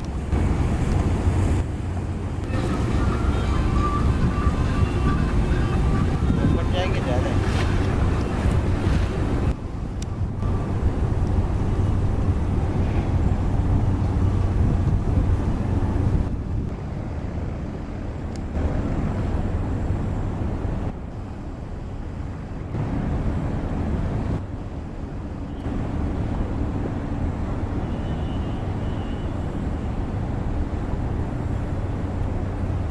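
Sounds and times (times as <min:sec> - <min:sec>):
boat engine droning: 0:00.0 - 0:32.9.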